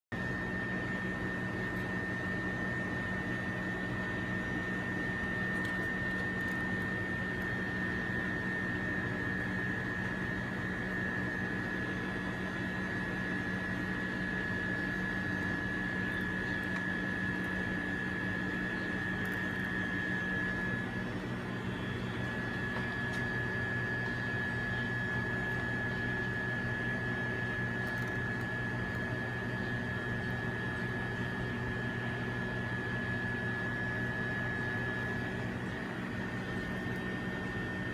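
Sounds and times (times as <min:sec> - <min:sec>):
machine hum with high whine: 0:00.0 - 0:37.9.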